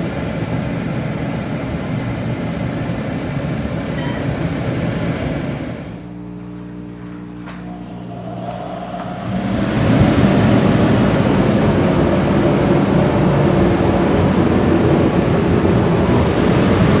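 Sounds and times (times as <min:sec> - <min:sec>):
heater burner rushing air: 0:00.0 - 0:17.0
heater fan motor whine: 0:00.0 - 0:17.0.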